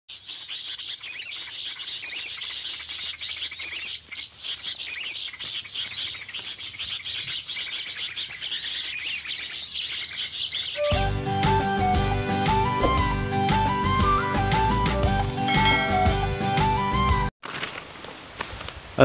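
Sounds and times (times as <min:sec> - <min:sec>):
small birds chirping: 0:00.1 - 0:16.3.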